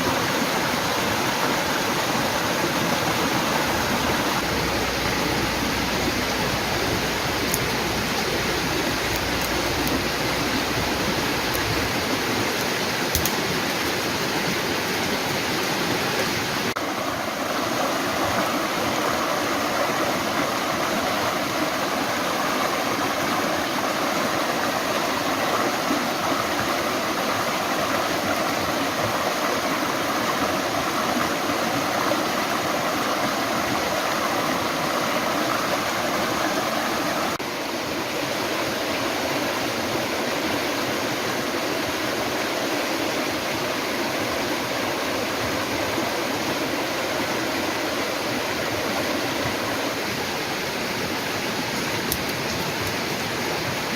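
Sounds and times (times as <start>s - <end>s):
running water rushing: 0.0s - 53.9s.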